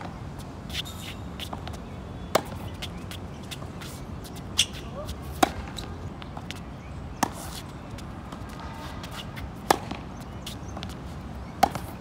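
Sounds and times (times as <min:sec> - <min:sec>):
racket hitting tennis ball: 0:00.7 - 0:06.6, 0:07.2 - 0:12.0.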